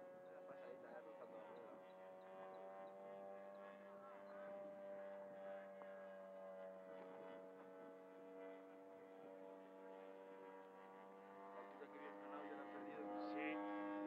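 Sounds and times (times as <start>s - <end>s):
model airplane motor droning: 0.0s - 14.0s.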